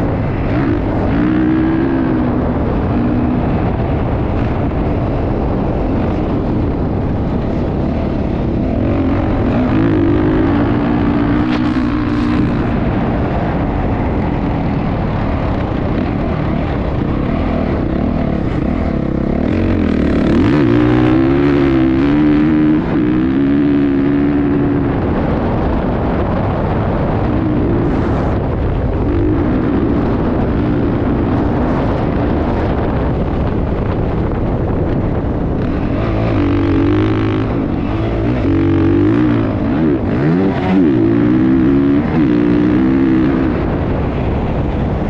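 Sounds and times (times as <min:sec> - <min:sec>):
dense low rumble: 0:00.0 - 0:45.0
motocross bike engine running hard: 0:00.0 - 0:45.0.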